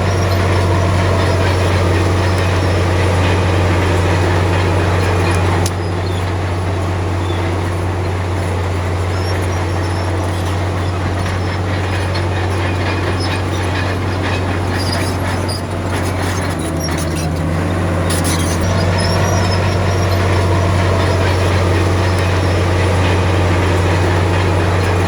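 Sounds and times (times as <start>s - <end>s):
bulldozer diesel engine running: 0.0s - 25.0s
metallic clanking of tracks: 0.0s - 25.0s.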